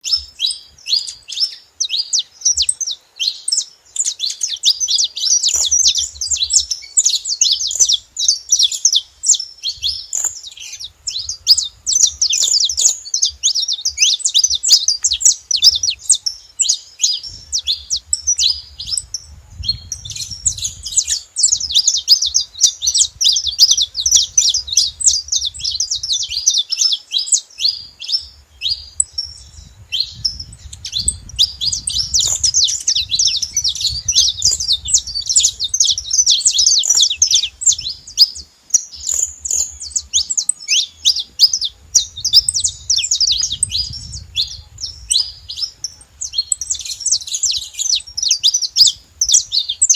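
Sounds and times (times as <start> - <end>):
finch singing sharp high chirps: 0.0 - 49.9.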